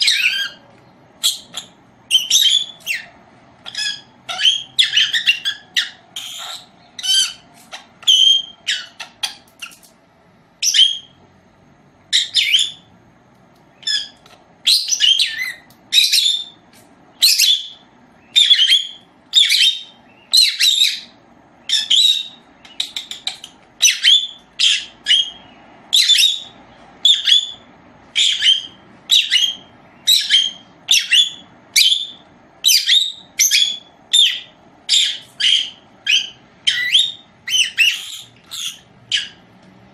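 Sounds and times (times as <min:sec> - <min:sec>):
parrot shrill calls: 0:00.0 - 0:00.6, 0:01.2 - 0:09.9, 0:10.6 - 0:11.2, 0:12.1 - 0:12.9, 0:13.8 - 0:16.6, 0:17.2 - 0:39.4.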